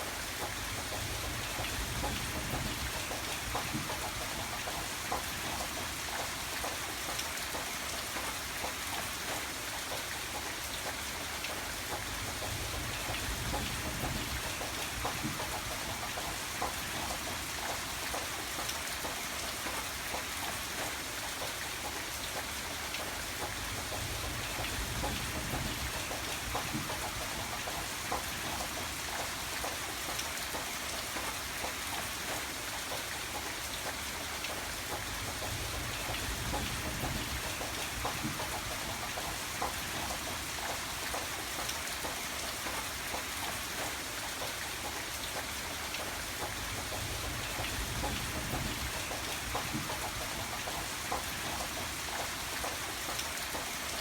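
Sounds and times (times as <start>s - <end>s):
rain drops tapping on a surface: 0.0s - 54.0s.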